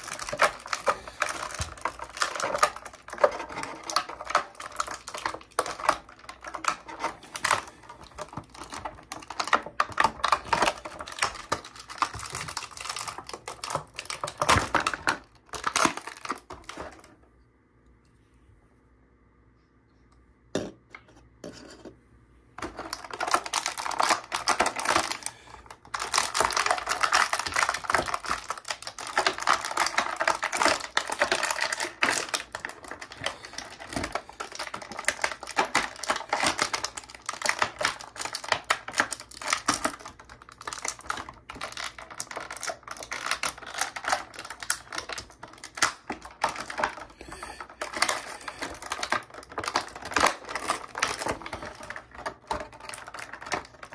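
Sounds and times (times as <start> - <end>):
plastic packaging crackling: 0.0 - 17.2, 22.6 - 53.9.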